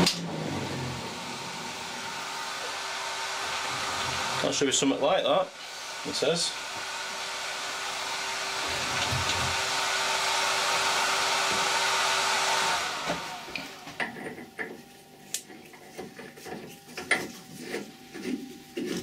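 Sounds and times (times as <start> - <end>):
lathe machine whirring: 0.0 - 15.4.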